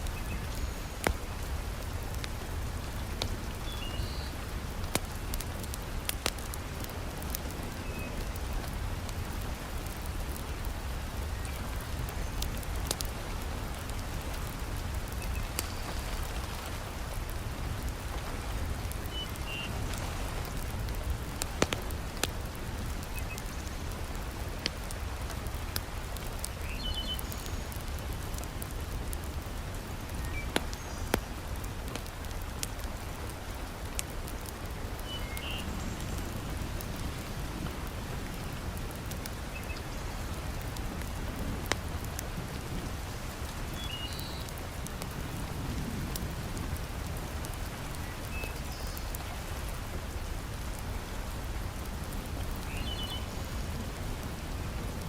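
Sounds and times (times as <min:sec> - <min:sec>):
heavy rain falling: 0:00.0 - 0:55.0
wood fire crackling: 0:00.0 - 0:55.0.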